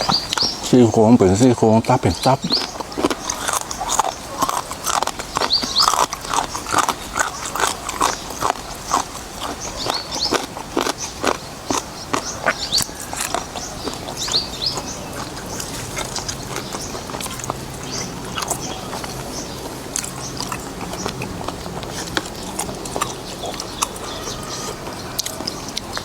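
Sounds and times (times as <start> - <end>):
person chewing noisily: 0.0 - 26.0.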